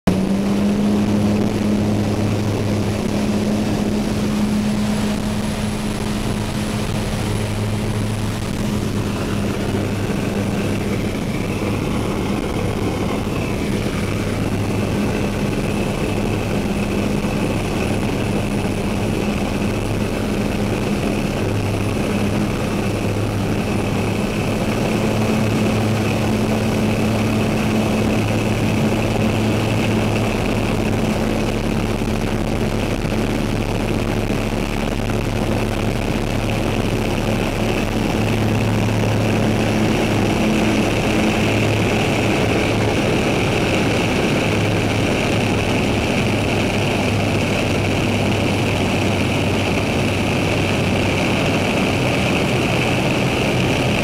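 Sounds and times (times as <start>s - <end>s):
propeller engine droning: 0.0s - 54.0s.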